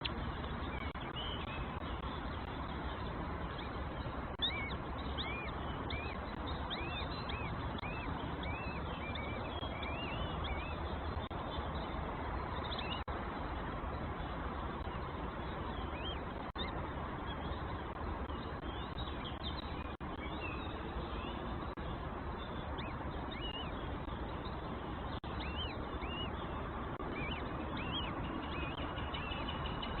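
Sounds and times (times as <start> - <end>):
nestling birds begging chirps: 0.0 - 13.3, 14.0 - 30.0.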